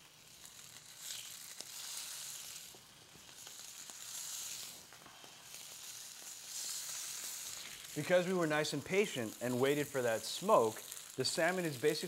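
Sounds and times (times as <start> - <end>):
fish searing in hot oil: 0.0 - 12.0.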